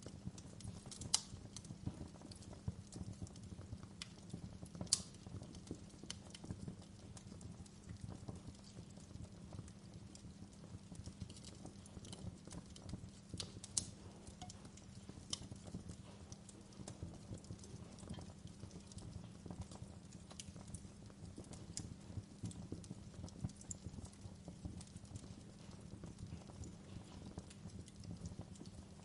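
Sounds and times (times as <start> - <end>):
gentle rain: 0.0 - 29.0
low rumble of flames: 0.0 - 29.0
wood fire crackling and popping: 0.0 - 29.0.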